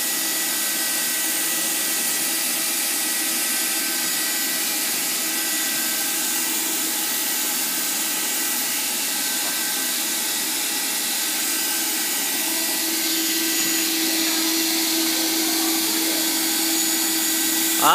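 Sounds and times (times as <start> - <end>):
welding machine blower hissing: 0.0 - 17.9.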